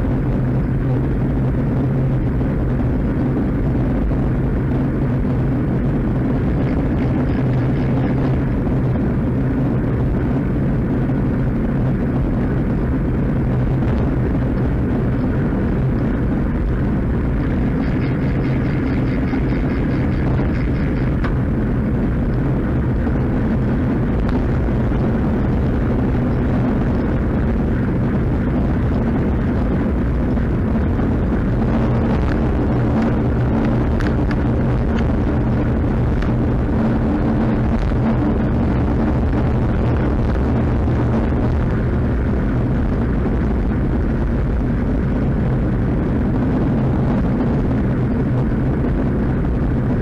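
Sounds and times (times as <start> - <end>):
tyres humming on asphalt: 0.0 - 50.0
wind rumble on microphone: 0.0 - 50.0.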